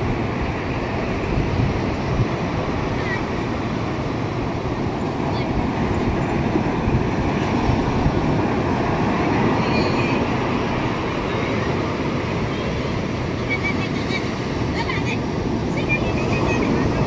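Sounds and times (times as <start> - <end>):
surf washing up beach: 0.0 - 17.0
wind buffeting microphone: 0.0 - 17.0.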